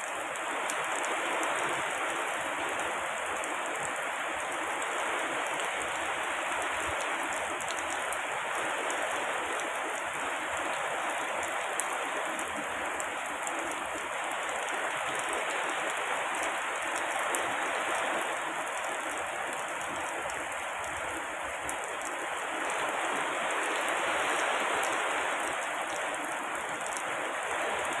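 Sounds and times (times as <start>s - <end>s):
heavy rain: 0.0s - 28.0s.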